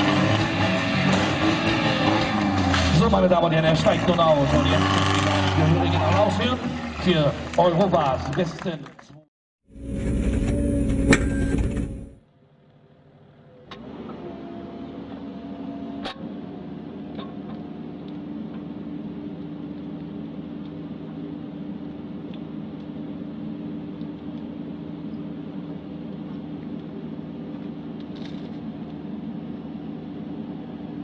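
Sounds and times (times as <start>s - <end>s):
diesel engine running: 0.0s - 8.7s, 9.7s - 31.0s.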